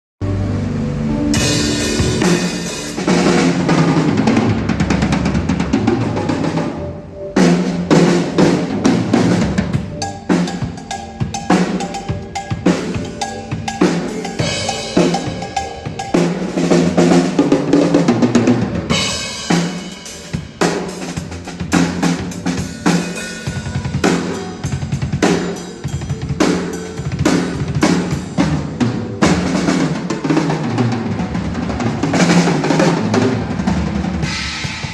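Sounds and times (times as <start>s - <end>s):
drum kit playing: 0.2s - 34.9s.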